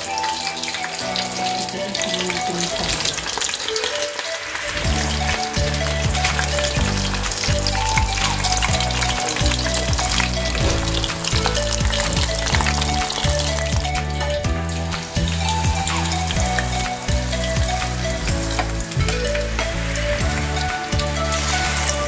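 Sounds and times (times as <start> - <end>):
background music: 0.0 - 22.0
shrimp deep-frying in hot oil: 0.0 - 22.0.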